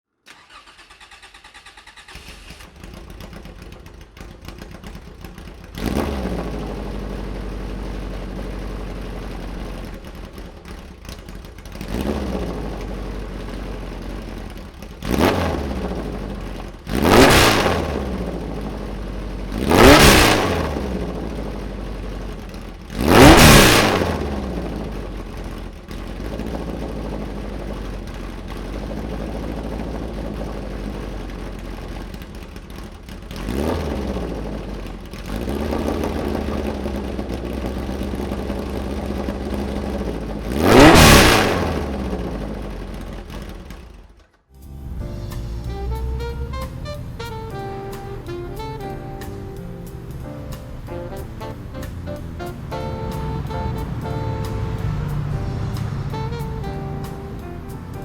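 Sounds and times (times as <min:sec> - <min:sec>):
starter cranking engine: 0:00.2 - 0:47.4
engine throttle blips: 0:00.3 - 0:58.0
race car engine idling: 0:02.2 - 0:58.0.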